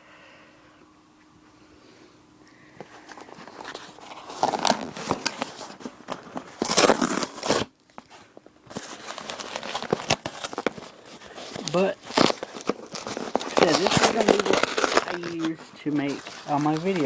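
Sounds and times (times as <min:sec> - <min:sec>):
packaging crinkling and tearing: 0:02.8 - 0:17.0.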